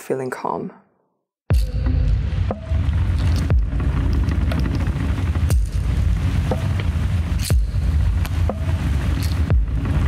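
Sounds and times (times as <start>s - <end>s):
deep booming beat: 1.5s - 10.0s
low rumbling drone: 1.5s - 10.0s.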